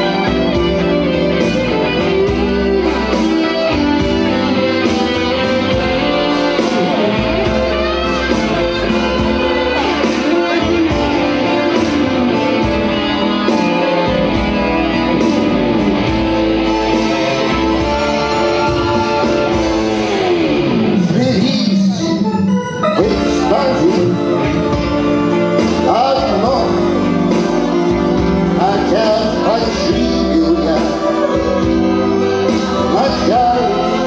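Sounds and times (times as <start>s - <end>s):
bass line: 0.0s - 34.0s
blues guitar: 0.0s - 34.0s.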